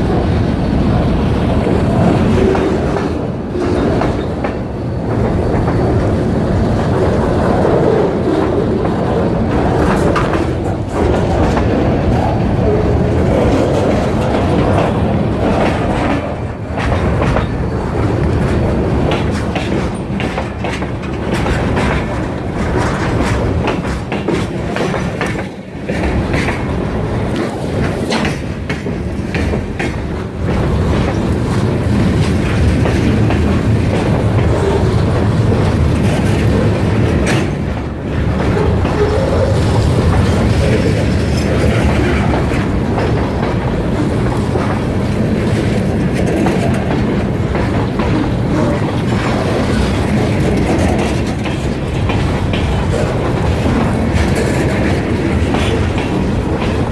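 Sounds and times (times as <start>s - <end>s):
train low rumble: 0.0s - 56.9s
train wheels clacking on rails: 0.0s - 56.9s.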